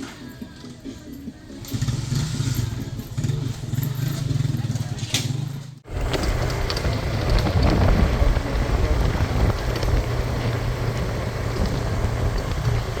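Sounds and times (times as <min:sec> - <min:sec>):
road and wind noise: 0:00.0 - 0:13.0
vehicle engine humming: 0:00.0 - 0:13.0.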